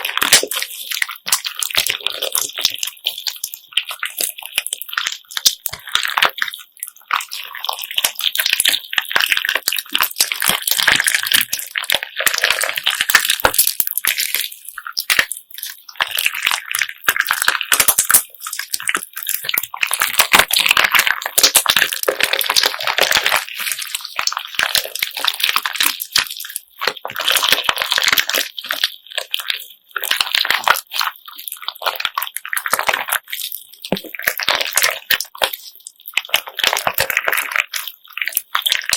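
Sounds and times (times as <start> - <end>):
beads clicking in kneaded slime: 0.0 - 38.9.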